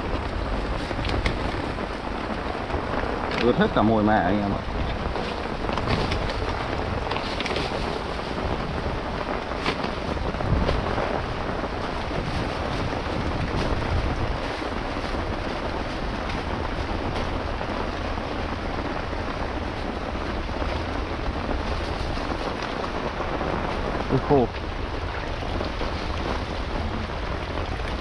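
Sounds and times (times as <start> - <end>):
heavy rain falling: 0.0 - 28.0
wind buffeting microphone: 0.0 - 28.0.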